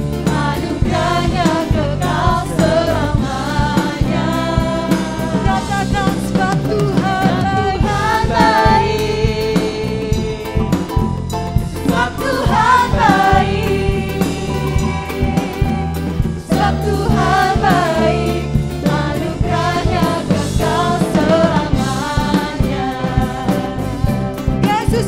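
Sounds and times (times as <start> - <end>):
worship team singing: 0.0 - 11.0, 11.6 - 25.0
full band playing: 0.0 - 25.0.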